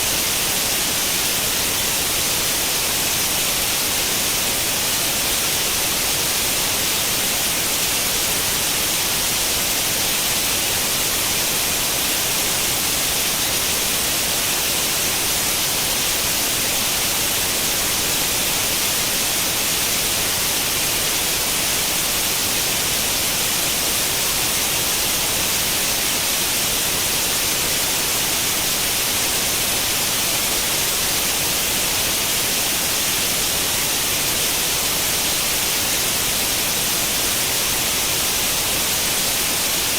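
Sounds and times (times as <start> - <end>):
static white noise hiss: 0.0 - 39.9.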